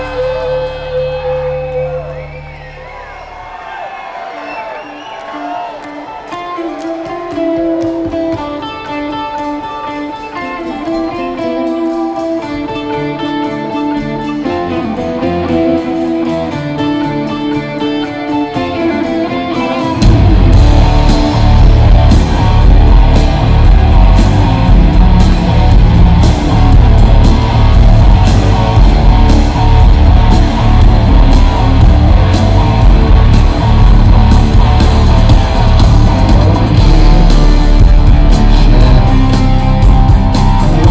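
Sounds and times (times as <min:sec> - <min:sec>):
electric guitar melody: 0:00.0 - 0:02.3, 0:05.9 - 0:40.9
bass guitar: 0:00.0 - 0:03.4, 0:06.3 - 0:40.9
live rock band: 0:00.0 - 0:03.4, 0:04.9 - 0:40.9
drums: 0:00.0 - 0:40.9.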